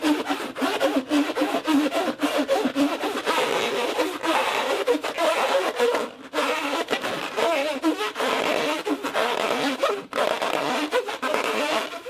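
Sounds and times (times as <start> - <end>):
rubber balloon squealing: 0.0 - 12.0.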